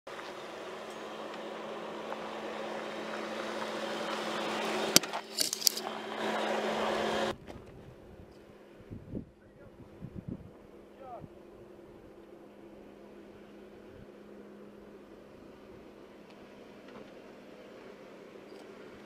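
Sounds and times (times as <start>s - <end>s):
car engine running: 0.1s - 8.9s, 9.8s - 19.0s.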